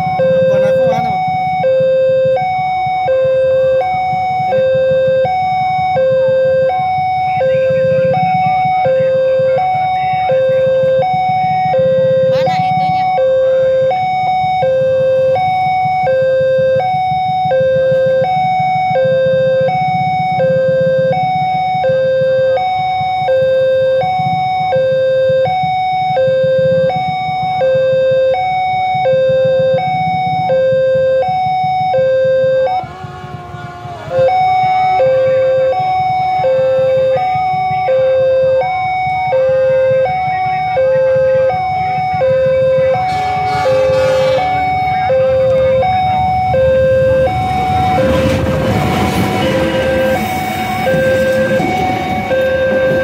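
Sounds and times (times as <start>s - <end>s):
two-tone crossing warning siren: 0.0s - 53.0s.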